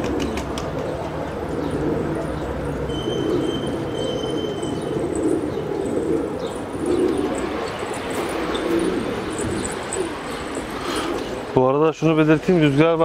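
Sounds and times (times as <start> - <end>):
pigeons cooing: 0.0 - 11.6.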